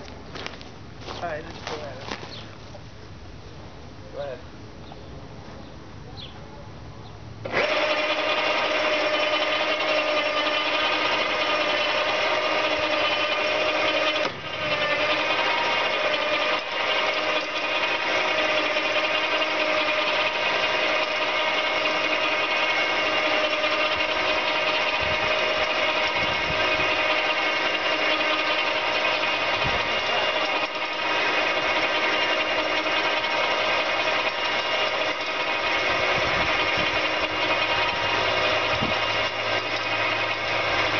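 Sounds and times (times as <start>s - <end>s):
electric winch motor whining: 7.4s - 40.9s.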